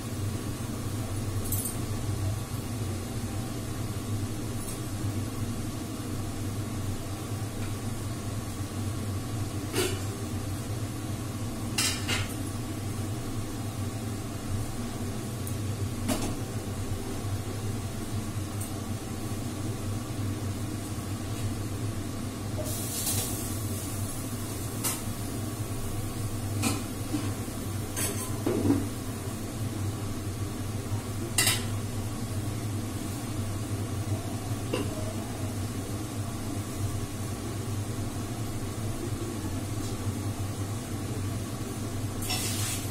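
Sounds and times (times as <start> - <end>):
low machine hum: 0.0 - 42.9.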